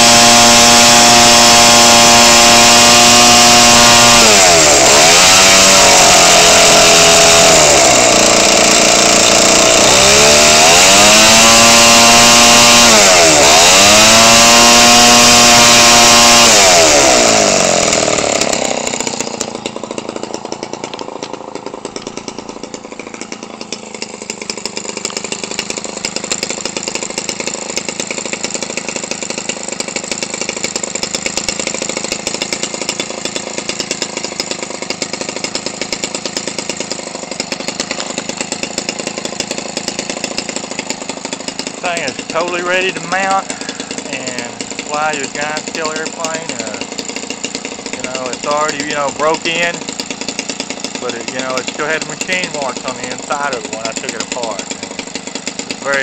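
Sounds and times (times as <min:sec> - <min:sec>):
small two-stroke engine: 0:00.0 - 0:56.0.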